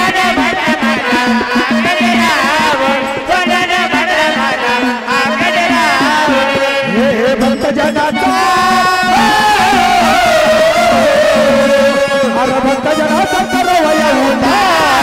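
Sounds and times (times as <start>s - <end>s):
drum and cymbal strokes: 0.0s - 15.0s
sliding folk melody: 0.0s - 15.0s.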